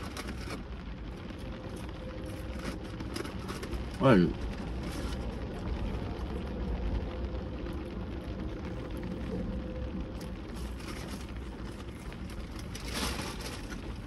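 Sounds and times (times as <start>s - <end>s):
low cabin rumble: 0.0s - 14.0s.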